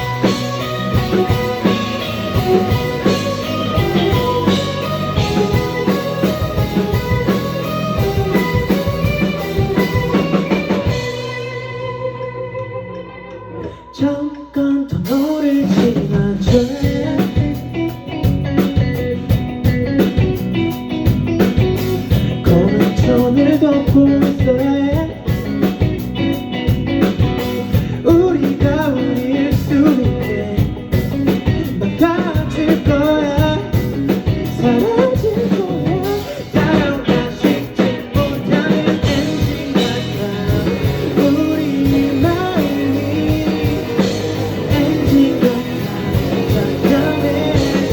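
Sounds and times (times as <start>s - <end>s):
rock band with singing: 0.0s - 47.9s.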